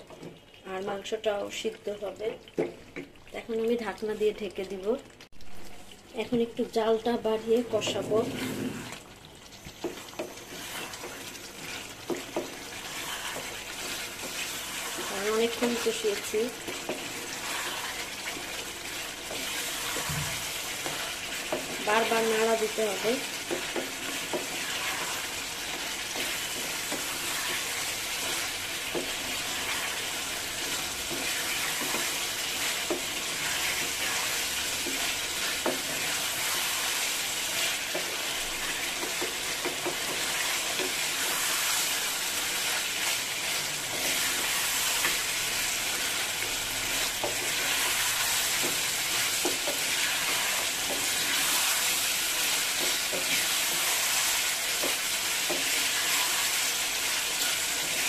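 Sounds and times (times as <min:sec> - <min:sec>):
meat sizzling in a pan: 0:05.4 - 0:58.0
spatula scraping a pan: 0:09.8 - 0:58.0.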